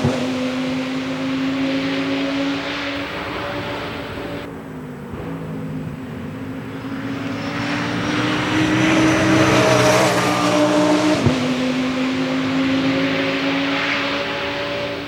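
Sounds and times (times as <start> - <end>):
race car engine high revs: 0.0 - 15.0.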